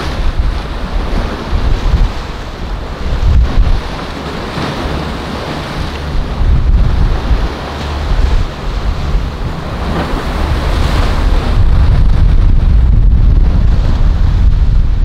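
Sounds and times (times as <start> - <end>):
ocean waves breaking: 0.0 - 15.0
wind rumble on microphone: 0.0 - 15.0.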